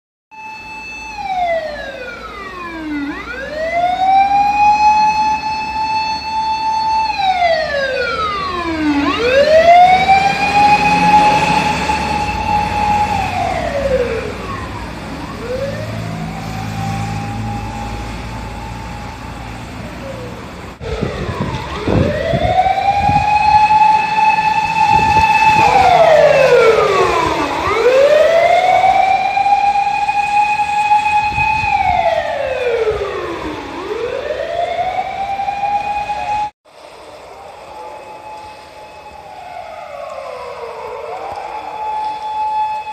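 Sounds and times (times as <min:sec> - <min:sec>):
emergency siren wailing: 0:00.3 - 0:42.9
low traffic rumble: 0:00.4 - 0:42.9.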